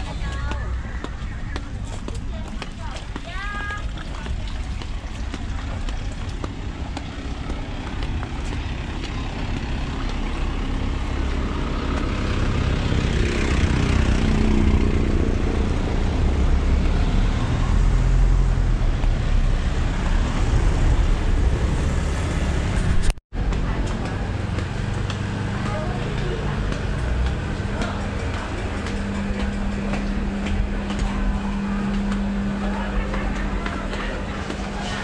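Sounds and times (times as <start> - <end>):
vehicles passing on road: 0.0 - 35.0.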